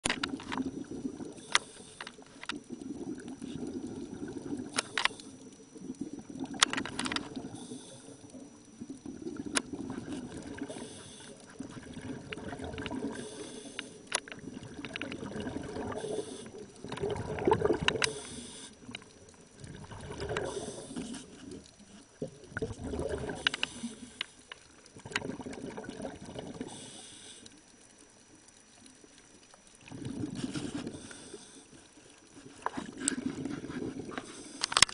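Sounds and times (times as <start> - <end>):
muffled underwater water noise: 0.0 - 34.9.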